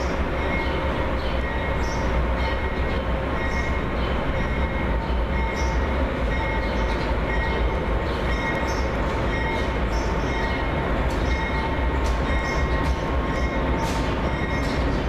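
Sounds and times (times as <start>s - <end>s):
locomotive engine rumble: 0.0s - 15.0s
wheels ticking on rails: 0.0s - 15.0s.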